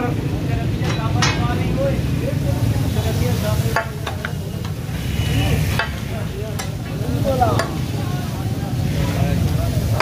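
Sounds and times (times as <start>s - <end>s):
chicken sizzling on griddle: 0.0s - 10.0s.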